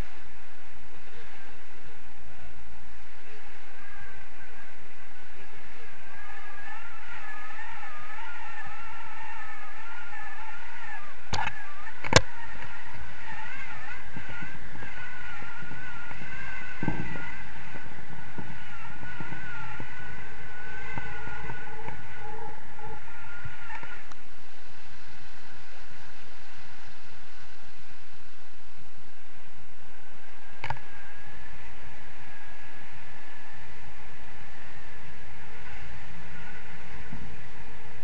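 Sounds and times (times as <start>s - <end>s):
thin wavering whistle: 0.0s - 28.3s, 30.0s - 38.0s
wind rushing over microphone: 0.0s - 38.0s.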